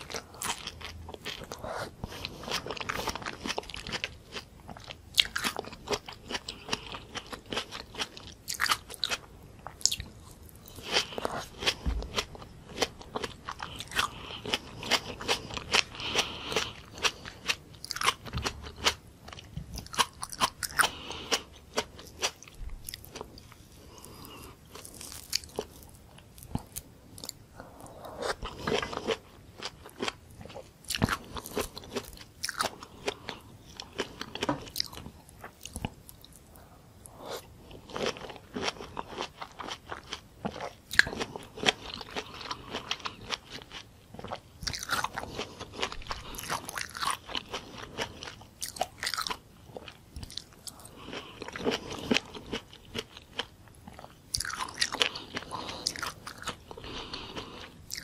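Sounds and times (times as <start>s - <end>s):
chewing tomato: 0.0s - 58.0s.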